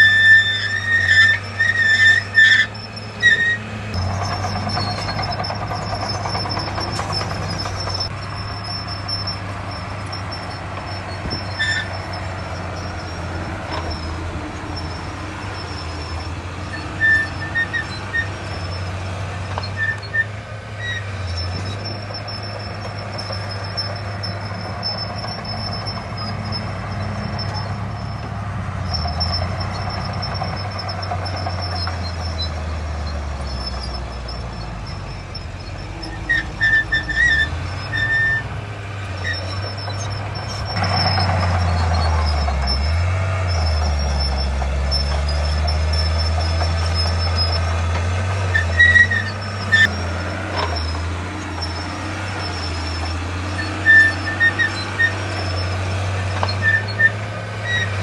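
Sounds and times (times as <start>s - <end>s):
heavy diesel machinery running: 0.0s - 58.0s
short high squeaks: 0.0s - 58.0s.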